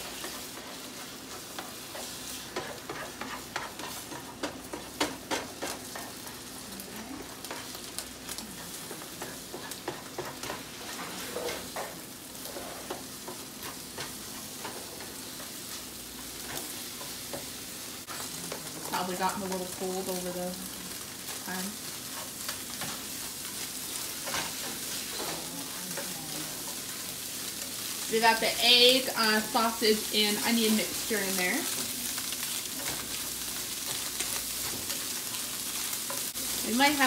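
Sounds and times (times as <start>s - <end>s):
spatula scraping pan: 0.0s - 8.0s, 8.6s - 19.7s, 22.0s - 37.0s
eggs sizzling in frying pan: 0.0s - 37.0s.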